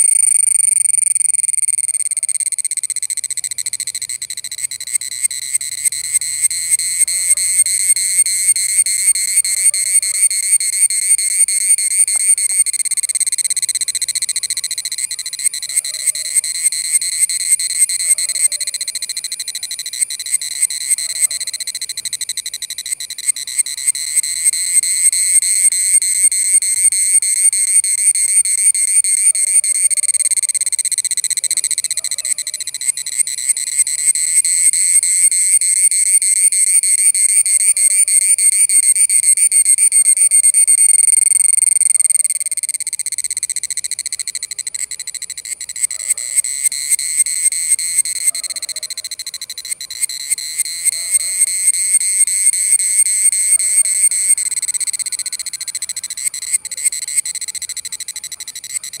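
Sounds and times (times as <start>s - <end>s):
cicada buzzing: 0.0s - 59.0s.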